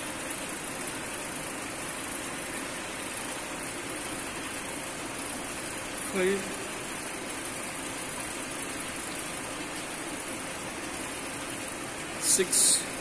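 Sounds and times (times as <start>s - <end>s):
faint steady hum: 0.0s - 13.0s
pump motor running: 0.0s - 13.0s.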